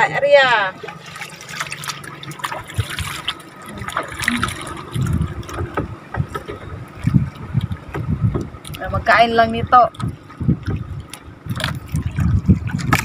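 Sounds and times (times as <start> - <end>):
water splashing and trickling: 0.4 - 13.0.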